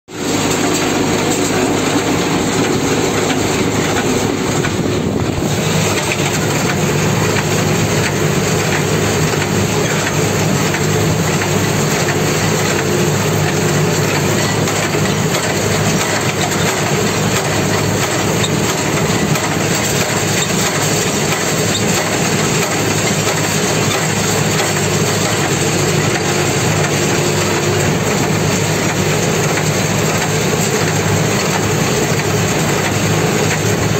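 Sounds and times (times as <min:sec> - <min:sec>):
baler mechanical noise: 0:00.1 - 0:33.9
tractor engine running under load: 0:00.1 - 0:33.9.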